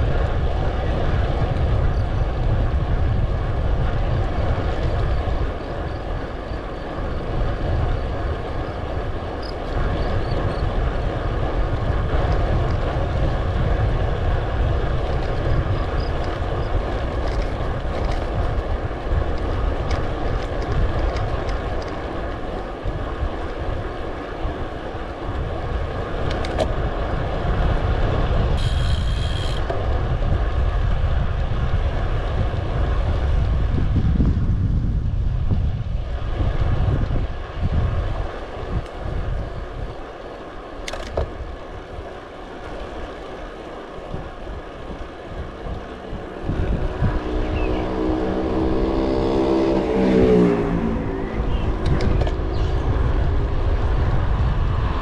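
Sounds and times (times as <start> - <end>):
rolling road noise: 0.0 - 55.0
wind buffeting microphone: 0.0 - 55.0.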